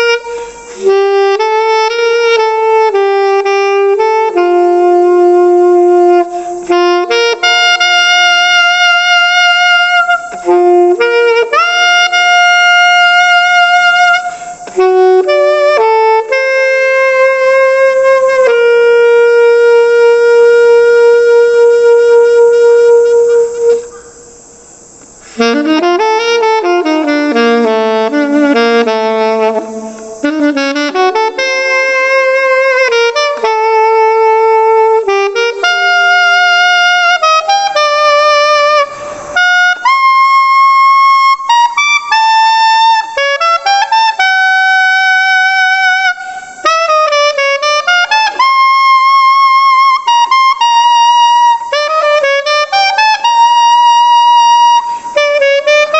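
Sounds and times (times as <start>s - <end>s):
solo alto saxophone: 0.0s - 55.9s.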